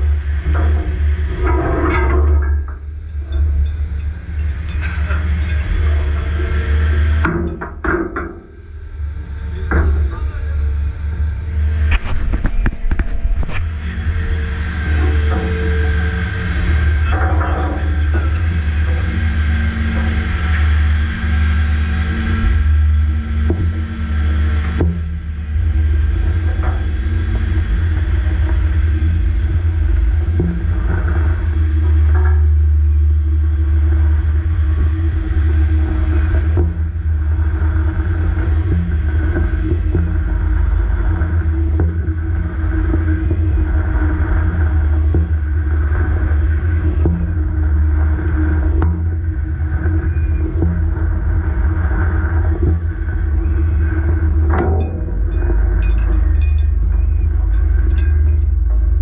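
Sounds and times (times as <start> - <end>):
faint steady hum: 0.0 - 59.0
heavy machinery rumbling: 0.0 - 59.0.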